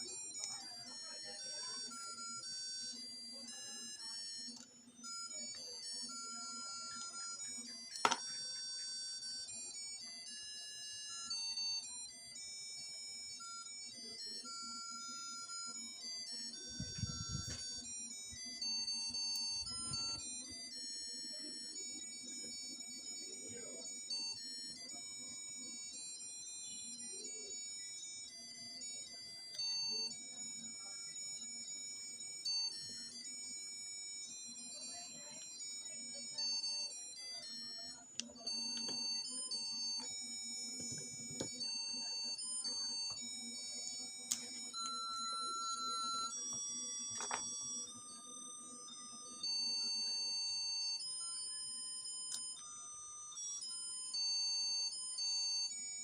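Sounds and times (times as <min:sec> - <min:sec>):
electronic beeping melody: 0:00.0 - 0:56.0.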